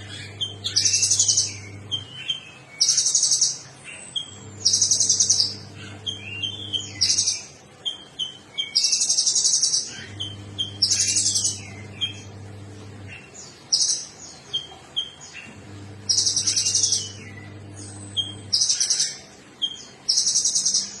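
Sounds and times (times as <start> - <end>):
faint low hum: 0.0 - 21.0
songbird buzzy trills: 0.0 - 21.0.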